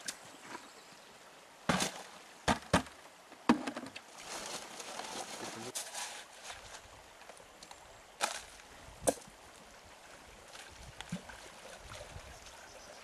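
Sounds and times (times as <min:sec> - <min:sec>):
faint stream trickle: 0:00.0 - 0:13.0.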